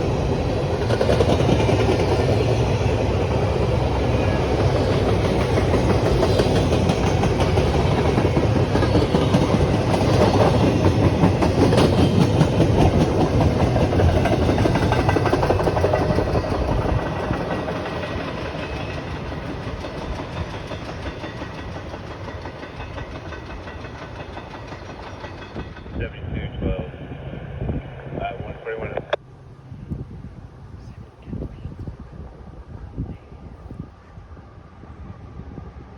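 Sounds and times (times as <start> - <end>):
train passing on rails: 0.0 - 35.9.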